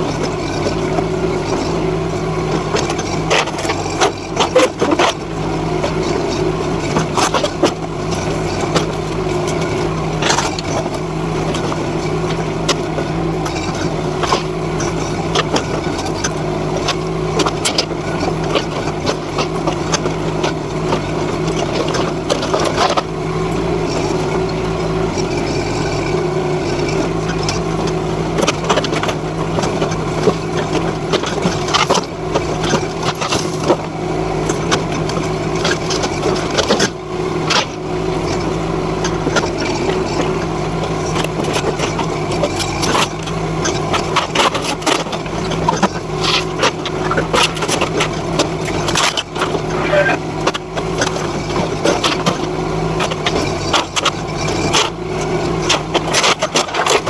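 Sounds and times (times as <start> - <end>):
mini excavator engine running: 0.0 - 57.0.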